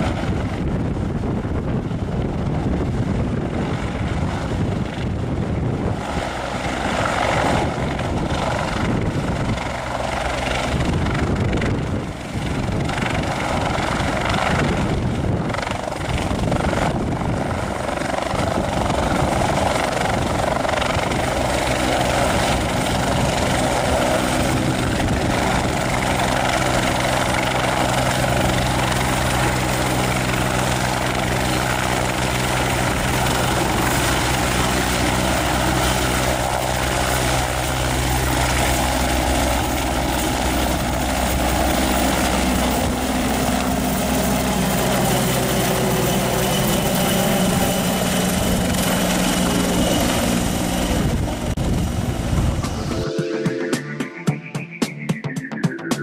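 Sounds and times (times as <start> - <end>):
helicopter rotor and turbines: 0.0 - 56.0.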